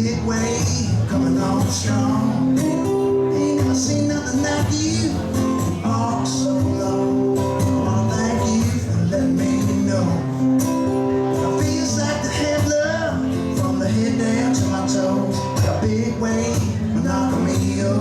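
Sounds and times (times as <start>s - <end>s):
bass guitar: 0.0s - 18.0s
electric guitar: 0.0s - 18.0s.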